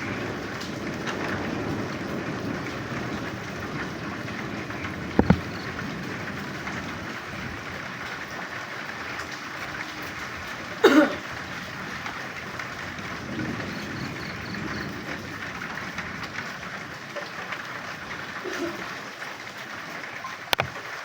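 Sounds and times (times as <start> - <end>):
frogs croaking: 0.0 - 20.6
steady rain: 0.0 - 21.0.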